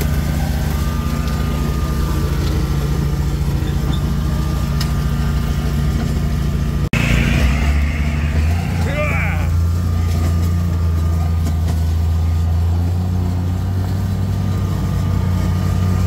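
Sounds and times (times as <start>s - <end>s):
brush mower engine: 0.0s - 16.0s
utility vehicle engine drone: 0.0s - 16.0s.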